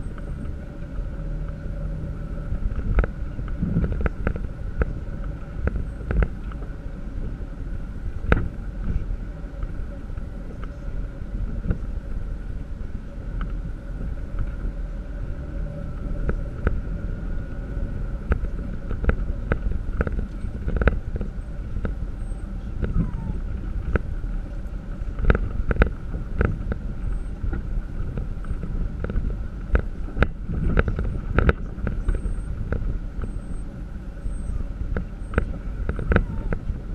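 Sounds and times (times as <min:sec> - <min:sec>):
low engine and road noise: 0:00.0 - 0:36.9
vehicle body rattling over bumps: 0:00.0 - 0:36.9
faint hum: 0:01.8 - 0:36.9.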